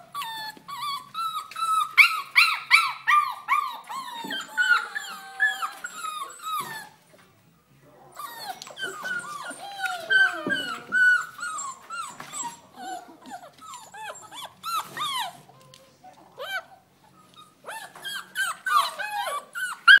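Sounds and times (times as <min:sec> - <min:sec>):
puppies yipping and whining: 0:00.0 - 0:07.2, 0:08.1 - 0:20.0.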